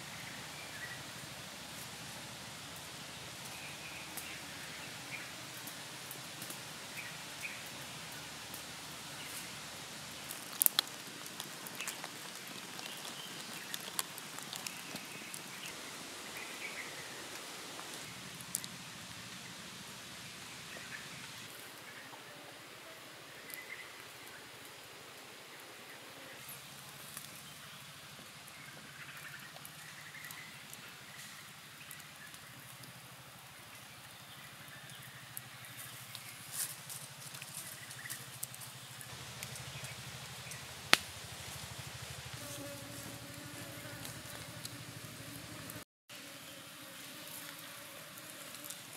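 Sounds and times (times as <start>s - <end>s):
wood fire crackling: 0.9s - 21.9s, 26.5s - 45.8s.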